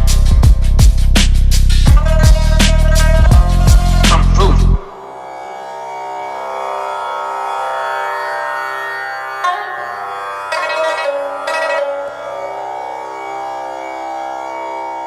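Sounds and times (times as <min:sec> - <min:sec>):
instrumental background music: 0:00.0 - 0:15.0
melody notes: 0:02.0 - 0:15.0.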